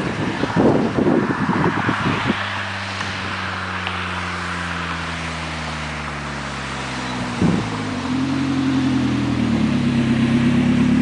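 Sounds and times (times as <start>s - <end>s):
car engine driving by: 0.0s - 11.0s
rough exhaust noise: 0.0s - 11.0s.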